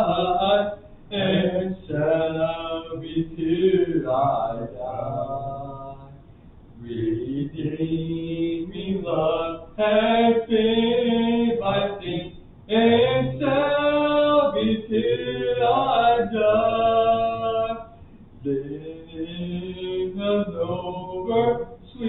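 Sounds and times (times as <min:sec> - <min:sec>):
man singing unaccompanied: 0:00.0 - 0:06.2, 0:06.8 - 0:22.0.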